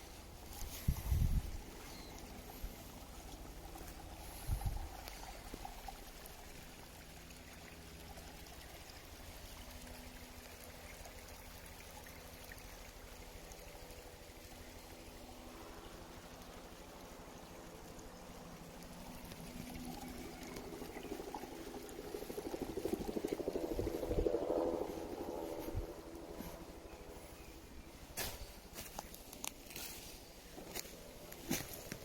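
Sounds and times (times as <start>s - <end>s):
running water rushing: 1.5s - 28.9s.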